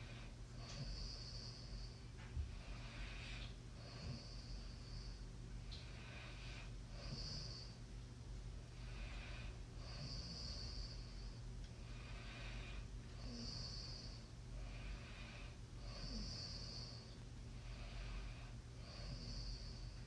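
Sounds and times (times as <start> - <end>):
person snoring with hissy breaths: 0.0 - 5.2, 5.8 - 7.8, 8.8 - 20.0
steady low hum: 0.0 - 20.0.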